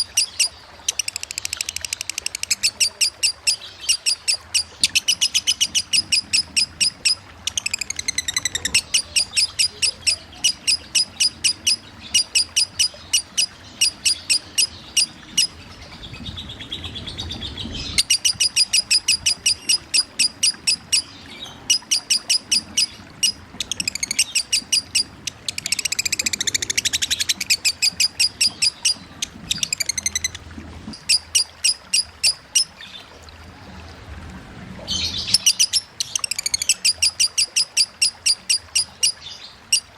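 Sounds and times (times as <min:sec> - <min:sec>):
lovebird chirping rapidly: 0:00.0 - 0:15.6, 0:17.6 - 0:30.4, 0:34.9 - 0:39.9
flowing water: 0:00.0 - 0:39.9.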